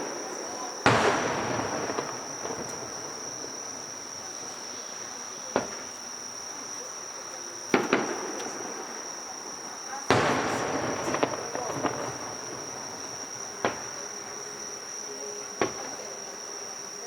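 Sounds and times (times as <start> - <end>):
fireworks bangs: 0.0 - 16.8
fireworks crackling: 0.0 - 17.0
insect trill: 0.0 - 17.0.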